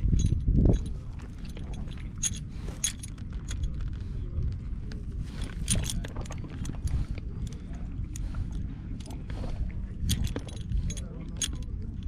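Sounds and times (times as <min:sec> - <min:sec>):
harness chains clinking and jingling: 0:00.0 - 0:03.8, 0:05.4 - 0:09.2, 0:10.0 - 0:12.0
steady low rumble: 0:00.0 - 0:12.0.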